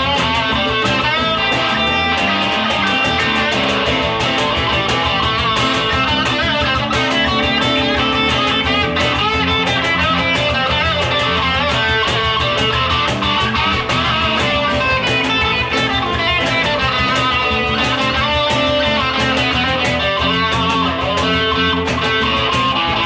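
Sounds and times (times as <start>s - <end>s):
live band guitar song: 0.0s - 23.0s.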